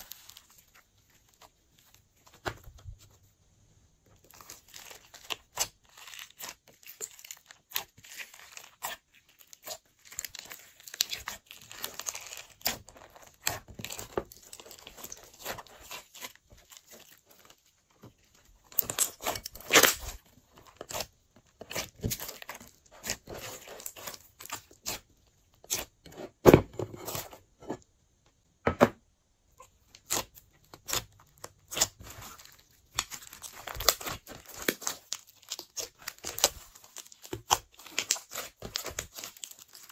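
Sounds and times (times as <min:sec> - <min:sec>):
slime squelching and popping: 0:04.2 - 0:26.0, 0:29.6 - 0:39.9.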